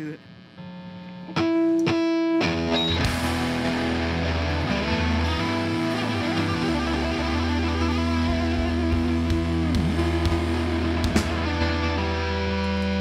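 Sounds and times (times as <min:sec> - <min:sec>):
bass guitar: 0:00.0 - 0:13.0
electric guitars: 0:00.0 - 0:13.0
drums: 0:01.2 - 0:13.0.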